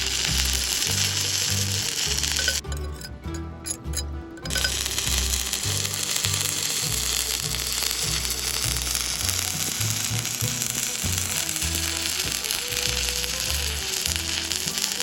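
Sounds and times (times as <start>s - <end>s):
welding arc crackling: 0.0s - 3.0s, 4.4s - 15.0s
background music with bass line: 0.0s - 15.0s.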